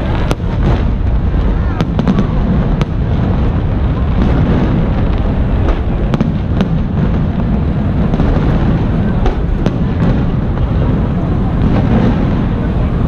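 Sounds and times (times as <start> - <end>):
fireworks booming: 0.0 - 13.0
sharp fireworks cracks: 0.0 - 13.0.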